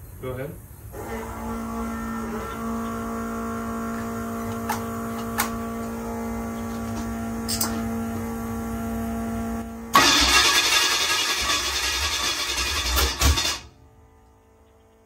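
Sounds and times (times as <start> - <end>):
electric fuel pump humming: 0.9 - 15.0.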